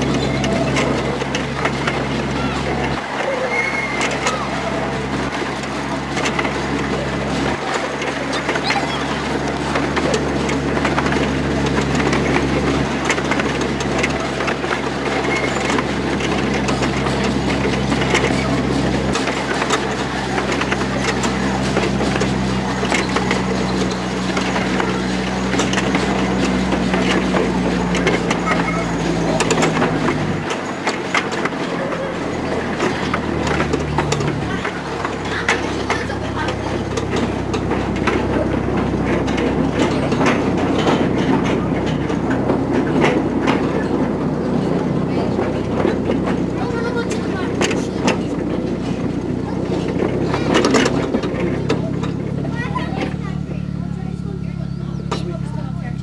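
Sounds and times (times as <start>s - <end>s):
train wheels rattling on track: 0.0s - 56.0s.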